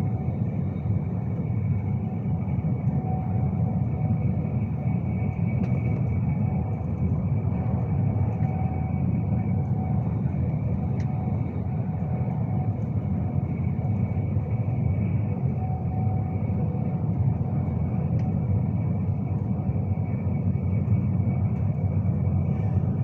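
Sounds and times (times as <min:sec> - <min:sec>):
electric train low rumble: 0:00.0 - 0:23.0
faint steady whine: 0:00.0 - 0:23.0.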